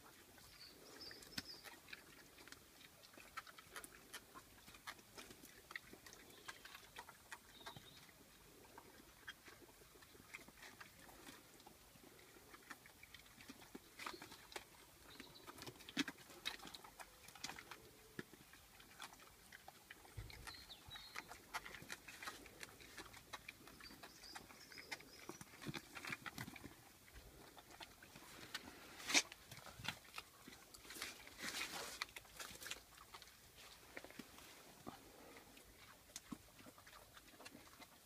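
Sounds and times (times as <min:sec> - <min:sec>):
pigs chewing and crunching: 0:00.0 - 0:38.0.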